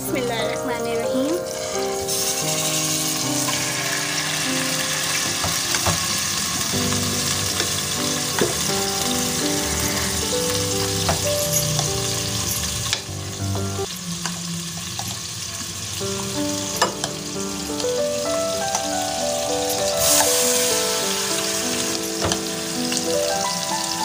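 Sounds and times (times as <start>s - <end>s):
background music: 0.0s - 13.9s, 16.2s - 24.0s
chicken sizzling in oil: 0.9s - 24.0s.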